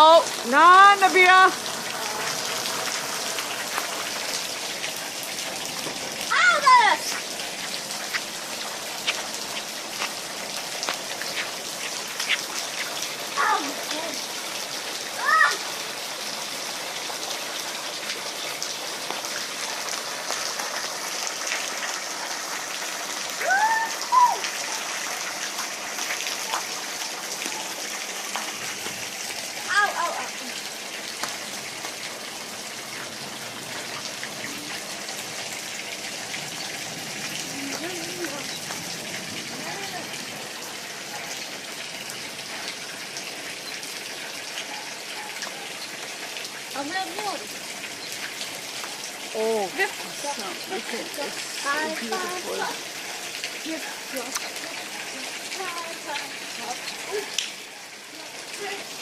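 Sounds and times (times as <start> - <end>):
raindrops ticking on surfaces: 0.0 - 59.0
steady rain falling: 0.0 - 59.0.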